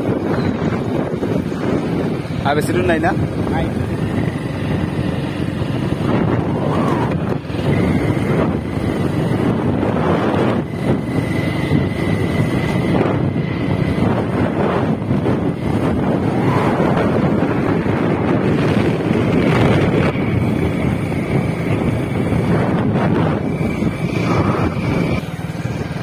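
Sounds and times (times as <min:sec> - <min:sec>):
vehicle engine and tyres rumbling: 0:00.0 - 0:26.0
wind buffeting microphone: 0:00.0 - 0:26.0.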